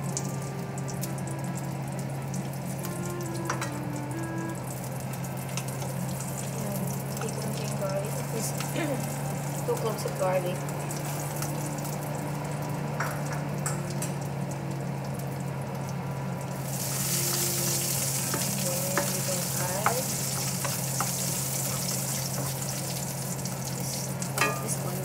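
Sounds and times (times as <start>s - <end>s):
garlic sizzling in oil: 0.0s - 25.0s.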